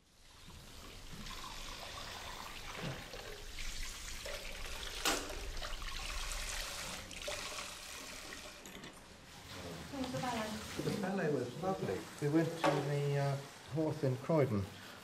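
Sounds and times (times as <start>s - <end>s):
tap water running over steel bowl: 0.2s - 13.6s.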